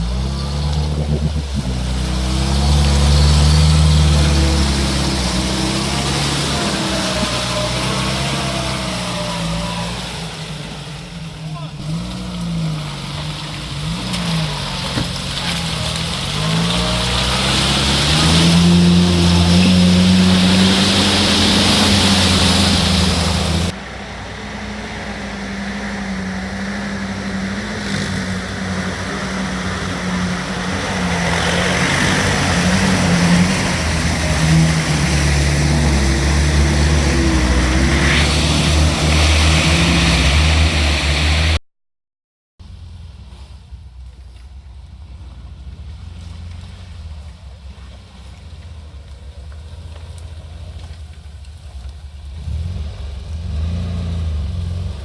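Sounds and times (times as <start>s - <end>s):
engine revving under load: 0.0s - 41.6s, 52.3s - 55.0s.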